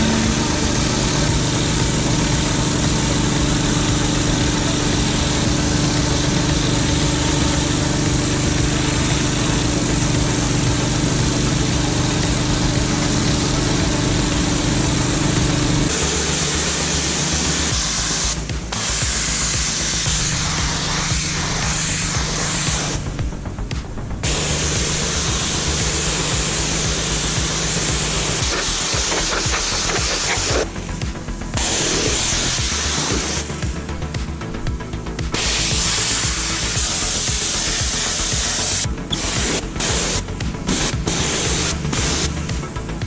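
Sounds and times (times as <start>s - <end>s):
water jet spraying hiss: 0.0s - 23.1s, 24.2s - 30.7s, 31.6s - 33.6s, 35.3s - 42.5s
pressure washer engine running: 0.0s - 43.0s.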